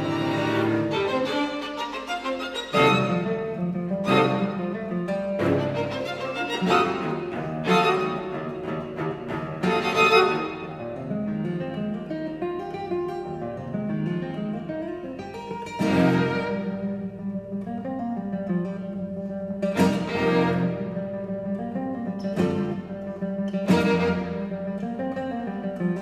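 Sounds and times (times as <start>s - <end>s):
classical guitar and string quartet: 0.0s - 26.0s.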